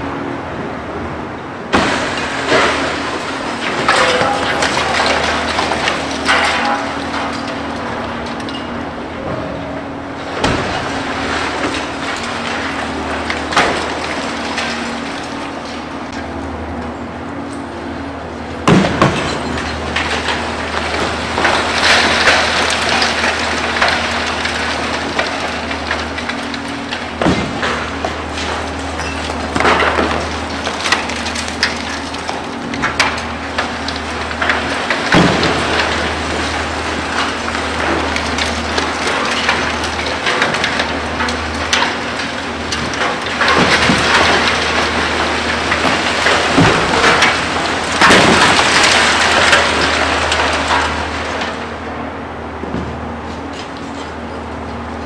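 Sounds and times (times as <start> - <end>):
concrete cracking and crashing: 1.7 - 9.4, 10.1 - 54.9.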